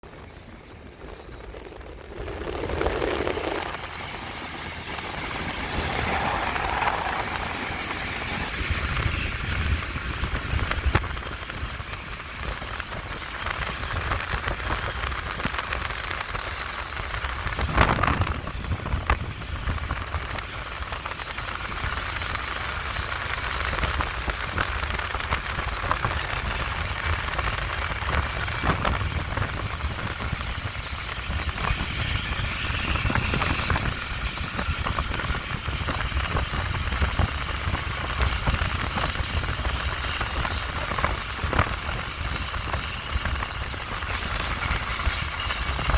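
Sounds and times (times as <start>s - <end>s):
train rumbling on track: 0.0s - 45.9s.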